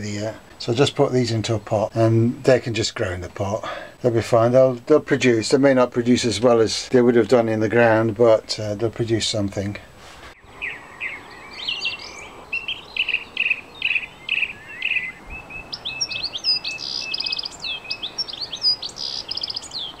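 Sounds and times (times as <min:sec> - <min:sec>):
songbirds chirping and warbling: 0:00.0 - 0:20.0.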